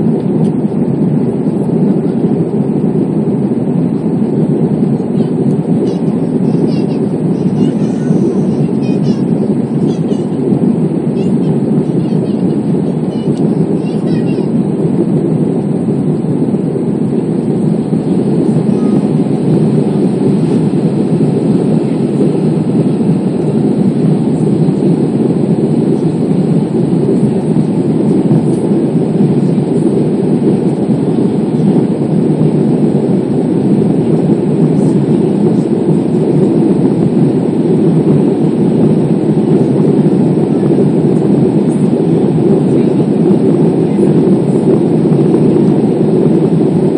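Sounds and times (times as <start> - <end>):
jet engines roaring in cabin: 0.0 - 46.9.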